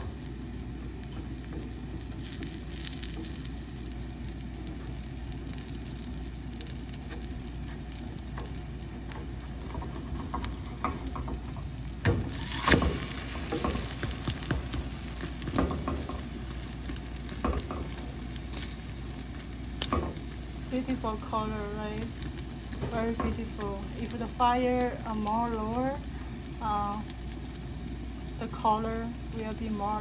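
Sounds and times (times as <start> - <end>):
pancake sizzling in a frying pan: 0.0 - 30.0.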